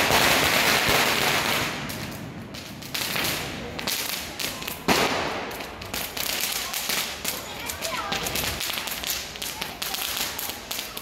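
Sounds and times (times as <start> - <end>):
firecrackers crackling and banging: 0.0 - 11.0.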